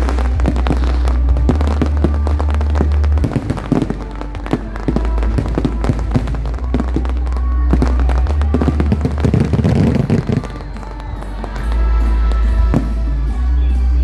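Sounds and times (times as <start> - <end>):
fireworks bursting and crackling: 0.0 - 14.0
loud music with deep bass: 0.0 - 14.0.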